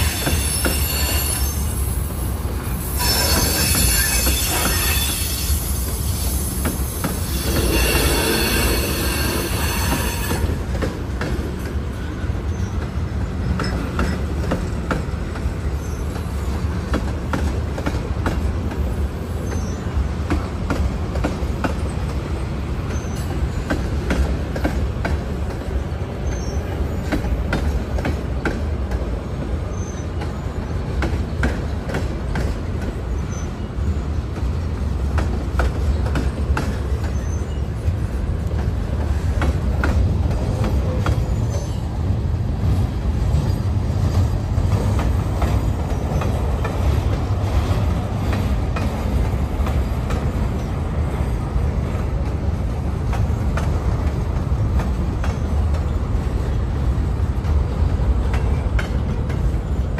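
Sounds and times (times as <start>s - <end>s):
steel wheels rumbling on rail: 0.0s - 59.9s
train cars clicking and clunking: 0.0s - 59.9s.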